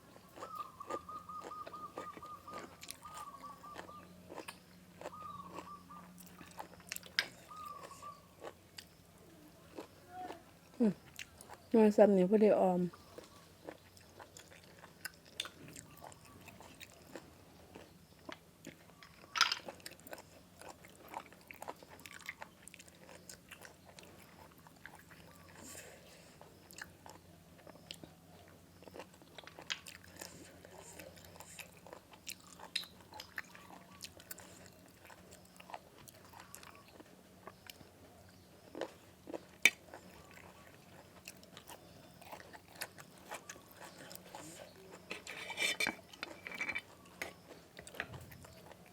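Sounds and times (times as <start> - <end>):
person chewing crunchy food: 0.0 - 11.7, 12.9 - 48.9
faint low hum: 0.0 - 48.9.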